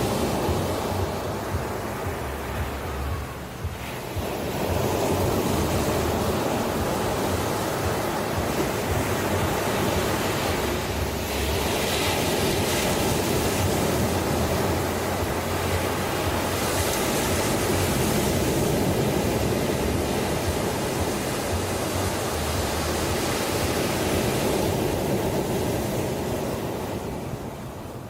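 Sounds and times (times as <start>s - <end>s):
ocean surf waves breaking: 0.0s - 28.0s.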